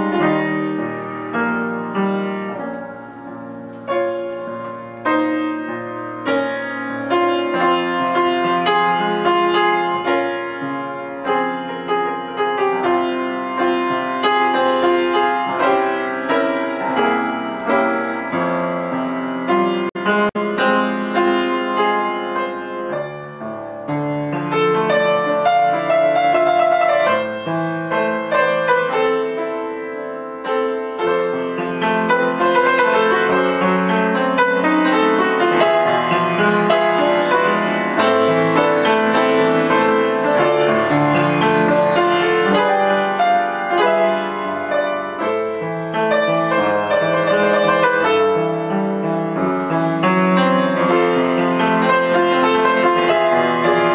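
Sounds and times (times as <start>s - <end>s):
solo piano music: 0.0s - 53.9s.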